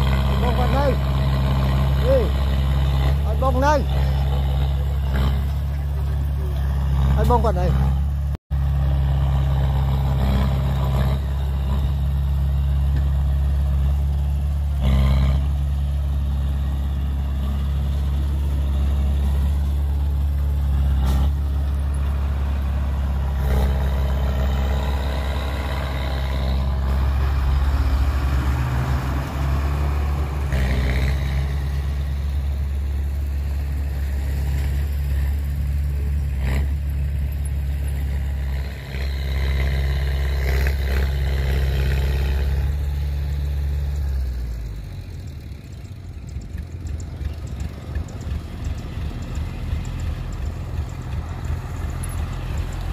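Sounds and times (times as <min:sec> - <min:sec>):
heavy diesel engines droning: 0:00.0 - 0:52.9.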